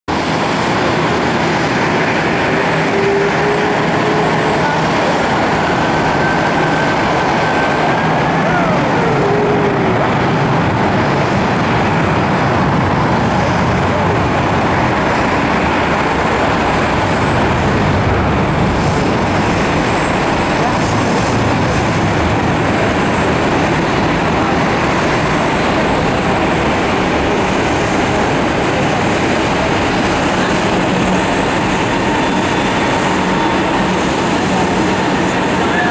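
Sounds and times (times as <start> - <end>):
jet engines roaring: 0.1 - 35.9.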